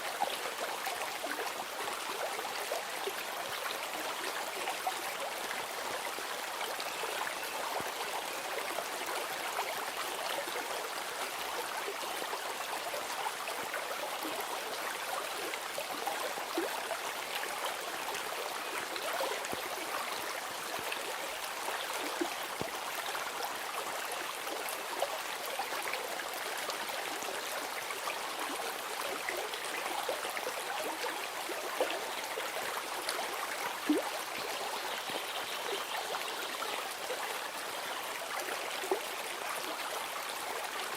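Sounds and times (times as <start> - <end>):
steady running water: 0.0 - 40.9.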